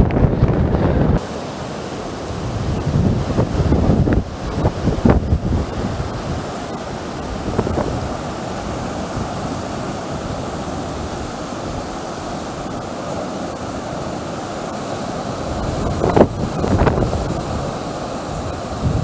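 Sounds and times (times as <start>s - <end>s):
ocean surf over rocks: 0.0s - 19.0s
wind on microphone: 0.0s - 19.0s.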